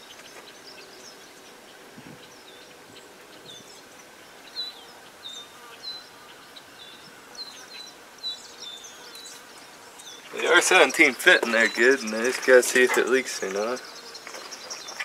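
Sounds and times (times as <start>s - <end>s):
faint outdoor background: 0.0s - 15.0s
small birds chirping: 0.0s - 15.0s.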